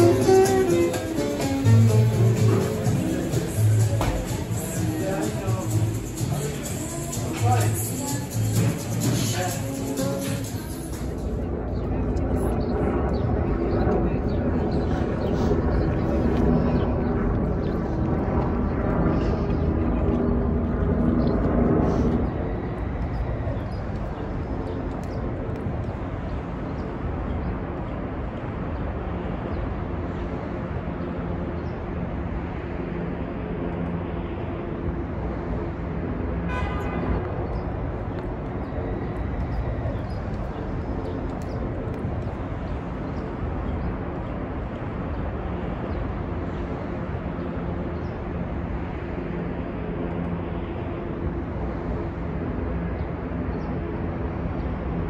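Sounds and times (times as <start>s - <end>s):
traffic noise: 0.0s - 55.0s.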